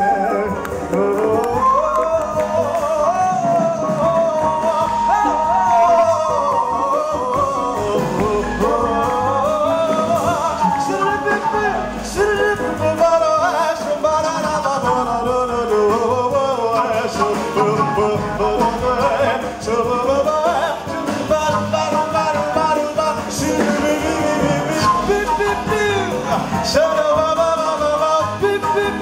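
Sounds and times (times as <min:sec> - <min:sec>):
flute: 0:00.0 - 0:29.0
piano and rhythm section: 0:00.0 - 0:29.0.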